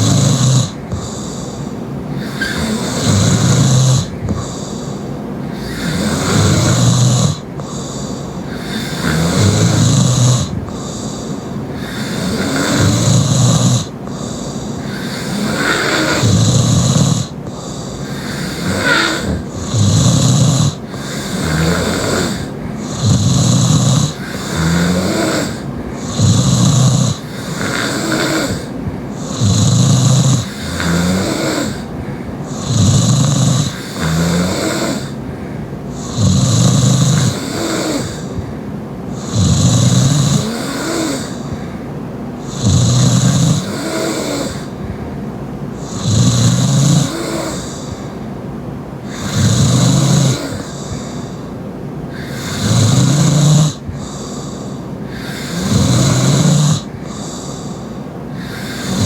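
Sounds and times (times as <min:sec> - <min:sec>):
woman snoring loudly: 0:00.0 - 0:35.3, 0:35.9 - 0:38.4, 0:39.1 - 0:41.6, 0:42.4 - 0:44.8, 0:45.8 - 0:48.0, 0:49.1 - 0:51.4, 0:52.1 - 0:59.0
soft breathing: 0:00.0 - 0:59.0.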